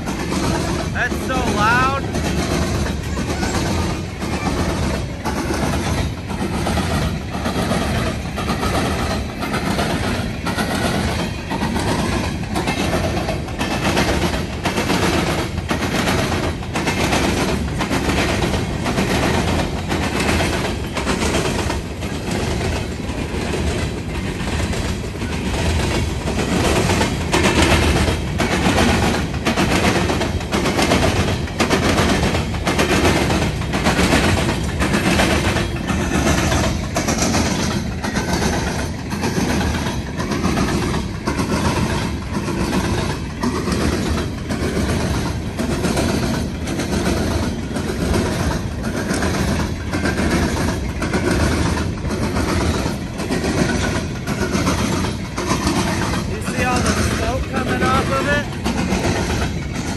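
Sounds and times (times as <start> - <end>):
train wheels clacking on track: 0.0 - 59.9.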